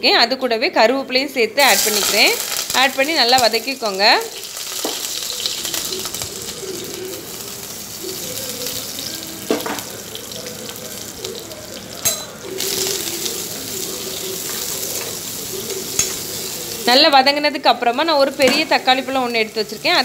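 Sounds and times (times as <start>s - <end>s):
onion sizzling in hot oil: 1.6s - 20.0s.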